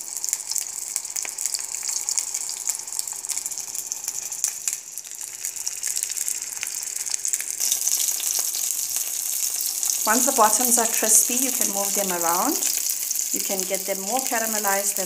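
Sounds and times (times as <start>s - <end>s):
dumplings sizzling in oil: 0.0s - 15.0s.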